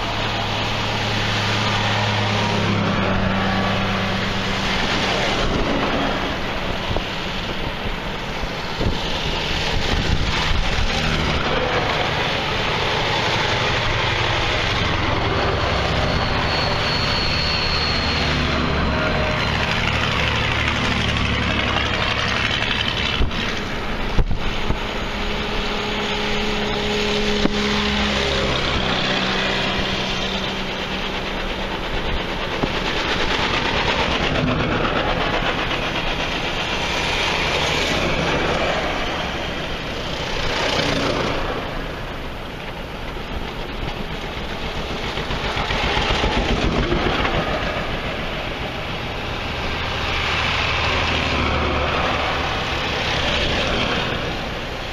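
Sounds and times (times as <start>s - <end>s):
tractor engines driving by: 0.0s - 54.9s.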